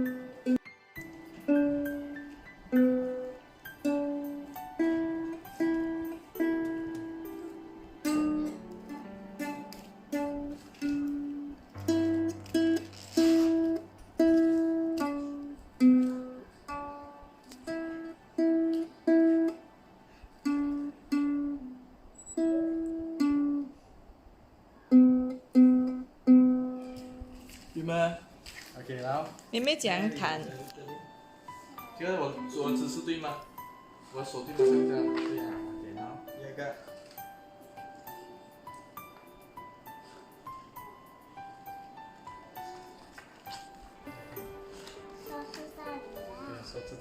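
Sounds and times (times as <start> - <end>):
ukulele plucked melody: 0.0 - 19.7, 20.4 - 21.8, 22.4 - 23.7, 24.9 - 27.2, 32.5 - 47.0.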